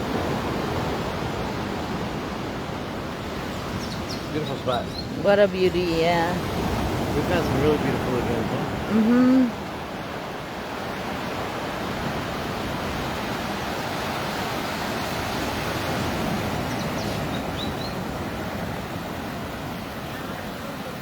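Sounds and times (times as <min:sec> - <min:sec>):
ocean surf washing onto beach: 0:00.0 - 0:21.0.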